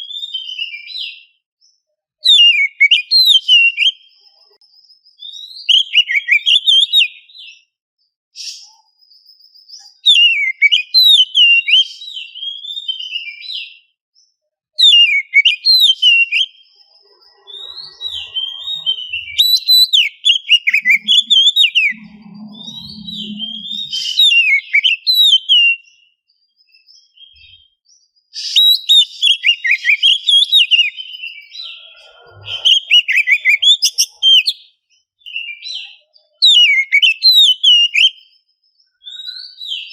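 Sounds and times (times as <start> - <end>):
bird singing whistles and chatters: 2.2 - 7.6, 8.4 - 13.8, 14.8 - 26.1, 28.4 - 39.9.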